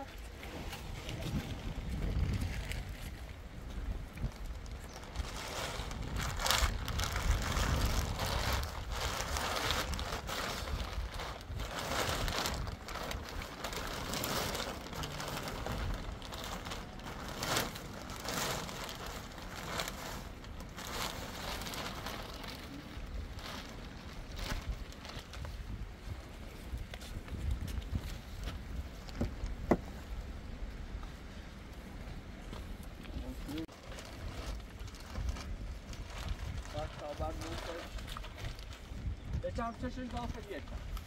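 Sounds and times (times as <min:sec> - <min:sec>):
crinkling rustles: 0:00.0 - 0:30.1, 0:32.4 - 0:41.0
rain and wind on microphone: 0:00.0 - 0:41.0.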